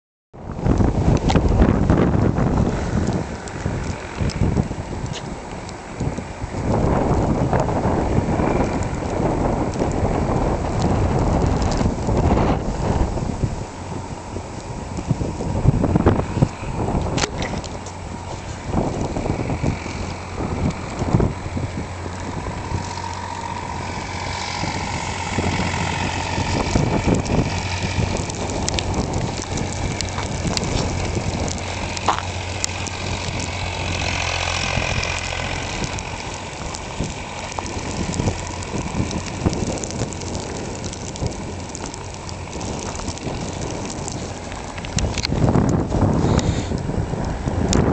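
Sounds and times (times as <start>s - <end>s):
low engine drone: 0.4s - 47.9s
wind rushing over microphone: 0.4s - 47.9s.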